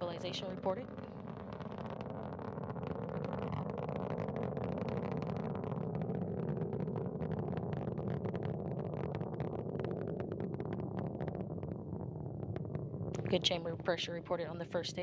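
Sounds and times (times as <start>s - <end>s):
rocket engines roaring and crackling: 0.0s - 15.0s.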